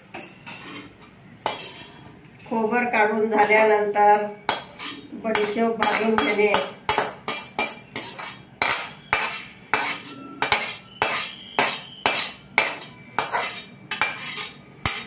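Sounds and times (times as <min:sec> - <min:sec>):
metal spoon scraping metal pan: 0:00.0 - 0:03.8, 0:04.5 - 0:15.0.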